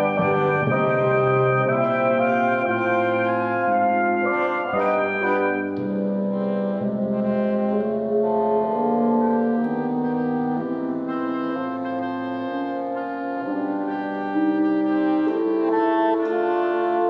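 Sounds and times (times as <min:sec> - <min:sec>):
orchestral winds playing chords: 0:00.0 - 0:17.0.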